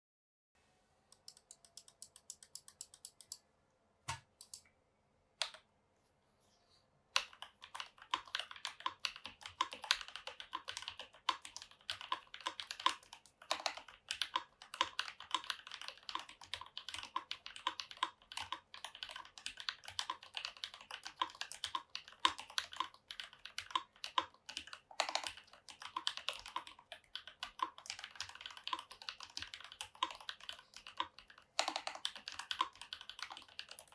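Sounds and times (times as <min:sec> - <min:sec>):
mechanical keyboard typing: 0:01.2 - 0:03.4, 0:07.2 - 0:33.9.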